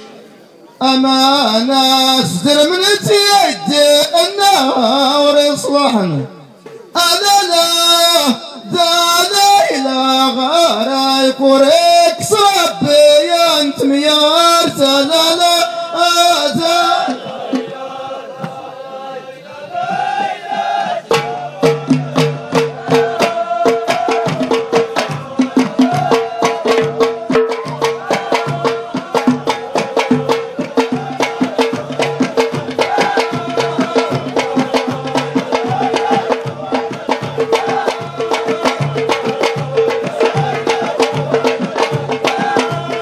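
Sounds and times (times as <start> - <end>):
frame drums fast rhythm: 1.2 - 43.0
men chanting together: 7.1 - 43.0.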